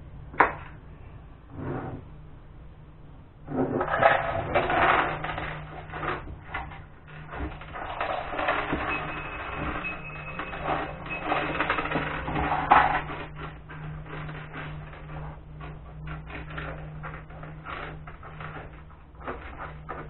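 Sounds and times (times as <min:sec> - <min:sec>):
steady low hum: 0:00.0 - 0:20.0
small hard objects clattering: 0:03.8 - 0:20.0.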